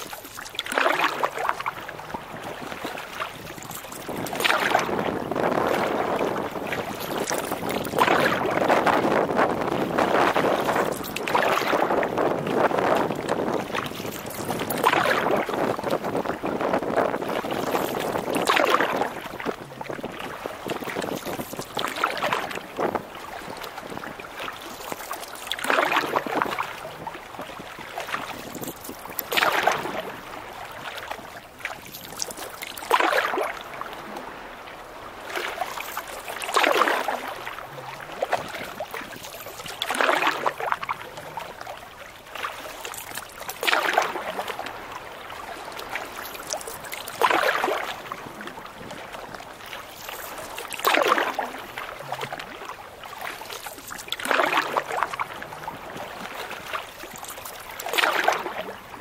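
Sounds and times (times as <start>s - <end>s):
canoe paddle splashing: 0.0s - 59.0s
steady wash of water: 0.0s - 59.0s.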